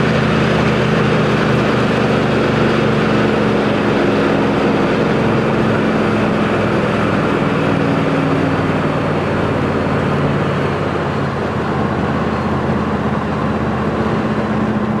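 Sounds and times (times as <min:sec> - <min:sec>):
car engine at highway speed: 0:00.0 - 0:15.0
road and wind noise: 0:00.0 - 0:15.0.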